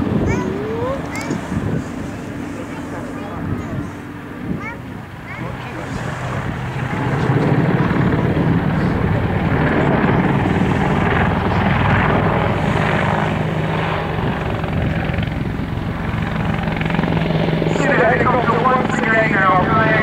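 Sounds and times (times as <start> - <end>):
helicopter engine drone: 0.0 - 20.0
helicopter rotor chopping: 0.0 - 20.0.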